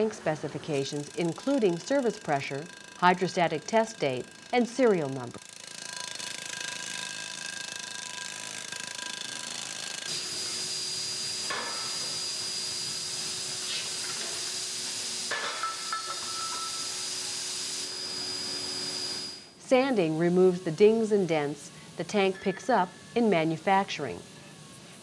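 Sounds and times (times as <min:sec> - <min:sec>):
factory machine hum and whine: 0:00.0 - 0:25.0.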